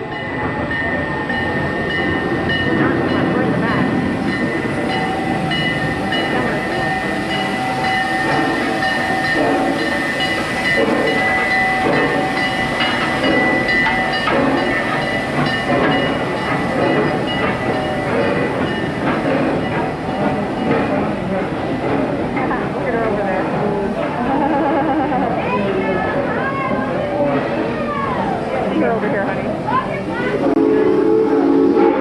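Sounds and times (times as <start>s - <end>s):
train engine rumble: 0.0s - 32.0s.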